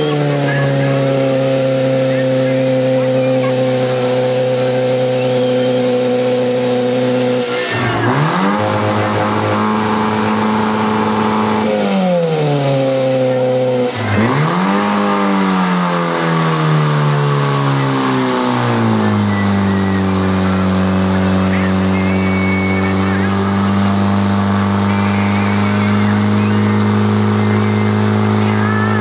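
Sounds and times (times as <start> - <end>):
pump engine running at high revs: 0.0 - 29.0.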